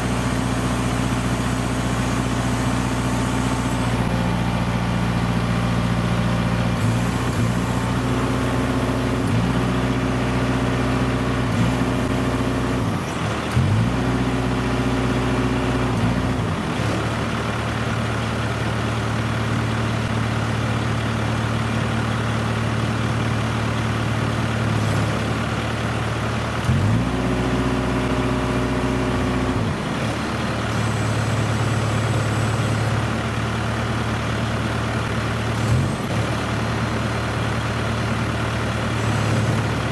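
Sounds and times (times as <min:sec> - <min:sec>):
heavy diesel truck engine: 0:00.0 - 0:39.9.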